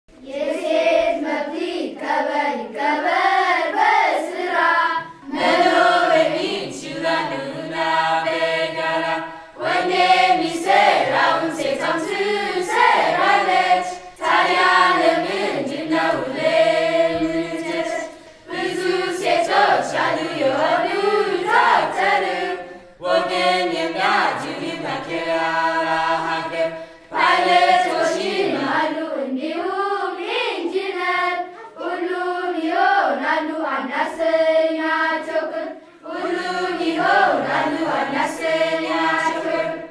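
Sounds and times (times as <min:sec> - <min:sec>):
children's choir singing: 0:00.1 - 0:39.9.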